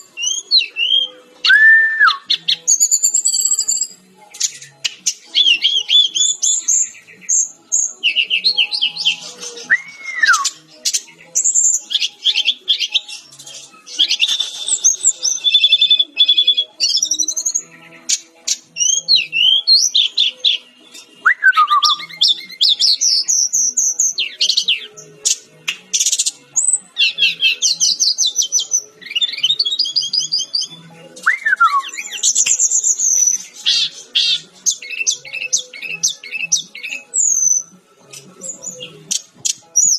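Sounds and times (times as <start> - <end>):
flycatcher singing: 0.0 - 39.9.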